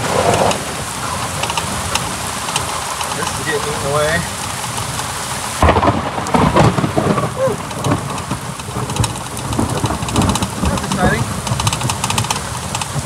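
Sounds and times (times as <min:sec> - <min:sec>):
raindrops hitting microphone: 0:00.0 - 0:13.0
torrential rain: 0:00.0 - 0:13.0.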